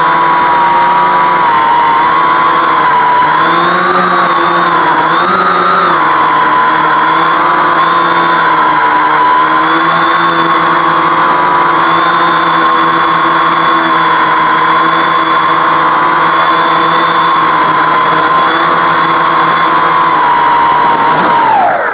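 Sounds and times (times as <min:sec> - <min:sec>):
quadcopter propellers whining: 0:00.0 - 0:21.9.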